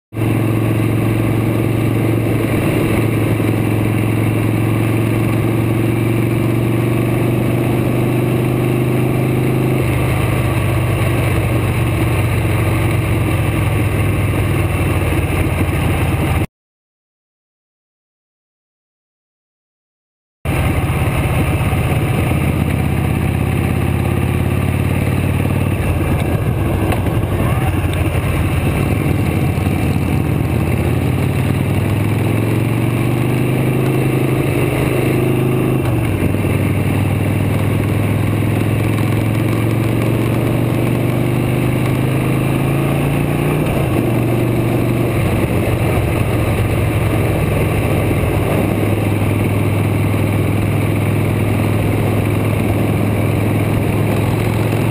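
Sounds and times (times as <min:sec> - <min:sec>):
motorcycle engine revving: 0:00.1 - 0:16.5, 0:20.5 - 0:54.9.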